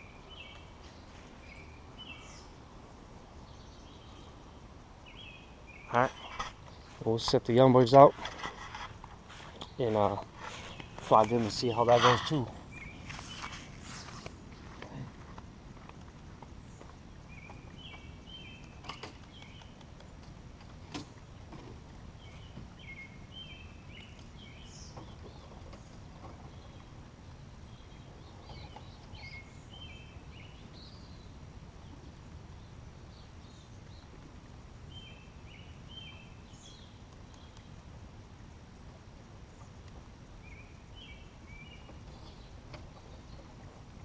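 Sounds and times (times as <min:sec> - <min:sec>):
birds chirping: 0:00.0 - 0:38.8, 0:39.4 - 0:44.0
low outdoor rumble: 0:00.0 - 0:44.0.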